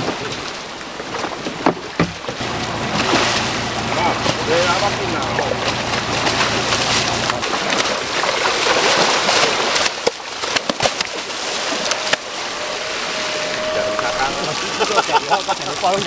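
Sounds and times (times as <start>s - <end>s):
fish thrashing and splashing: 0.0s - 16.0s
water pouring from basket: 1.1s - 16.0s.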